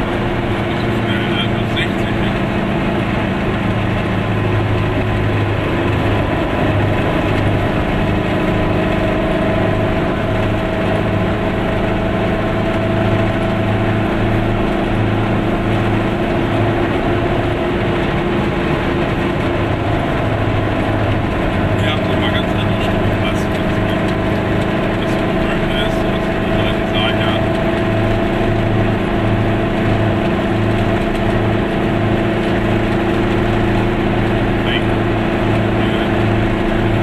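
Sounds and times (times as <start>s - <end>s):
two-stroke car engine running: 0.0s - 37.0s
tyre and road noise: 0.0s - 37.0s.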